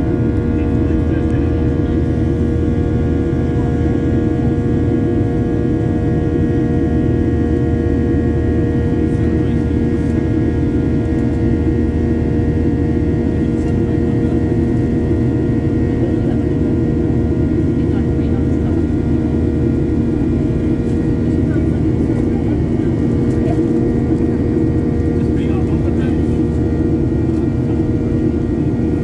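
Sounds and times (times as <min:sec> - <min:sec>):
airliner cabin engine rush: 0:00.0 - 0:29.0.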